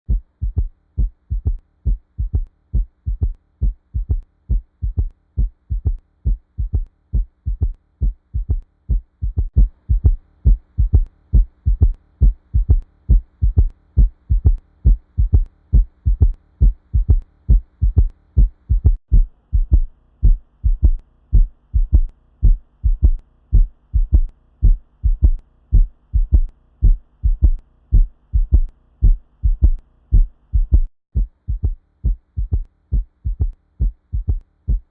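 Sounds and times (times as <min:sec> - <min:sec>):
faint steady hum: 0:00.1 - 0:34.9
heartbeat through stethoscope: 0:00.1 - 0:34.9.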